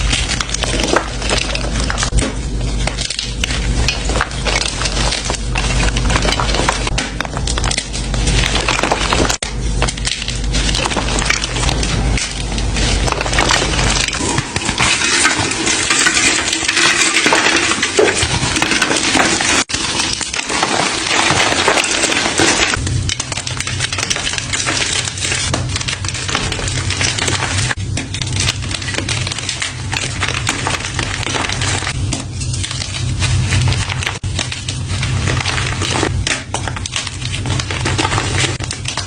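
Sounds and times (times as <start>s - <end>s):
chalk crunching and crackling: 0.0s - 39.0s.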